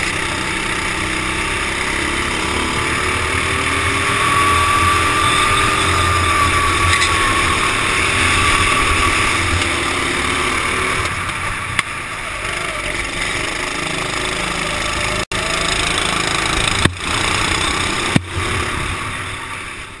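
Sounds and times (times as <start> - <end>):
kart engine running: 0.0 - 20.0
rushing wind: 0.0 - 20.0.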